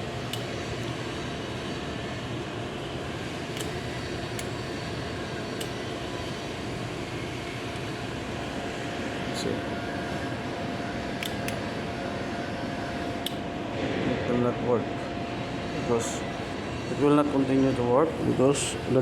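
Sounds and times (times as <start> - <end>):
mechanical hum and hiss: 0.0 - 19.0.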